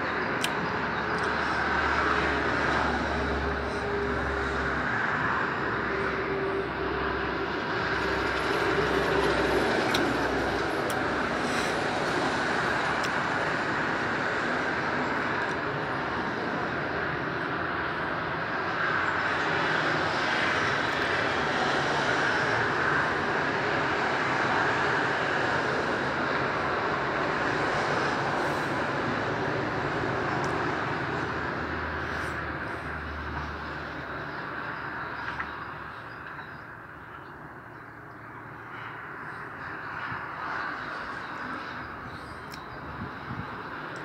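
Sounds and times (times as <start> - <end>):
motorway traffic passing: 0.0 - 44.0.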